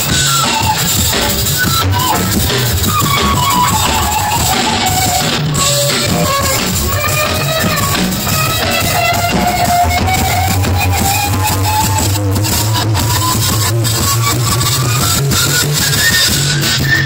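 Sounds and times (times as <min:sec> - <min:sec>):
pitch-bending melody line: 0:00.0 - 0:15.4
live band playing: 0:00.0 - 0:17.0.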